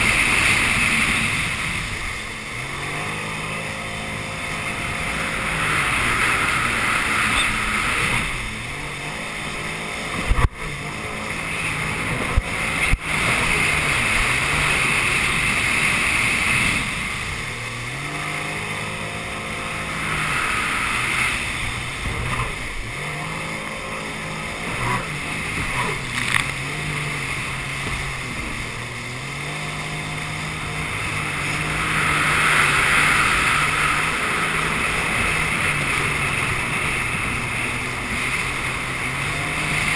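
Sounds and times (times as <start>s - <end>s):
jet ski engine running: 0.0s - 39.9s
water spray and wind rushing: 0.0s - 39.9s.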